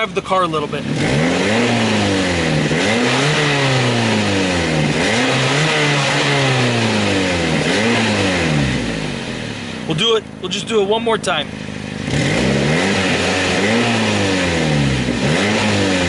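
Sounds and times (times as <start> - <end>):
raspy car engine revving: 0.0 - 16.0.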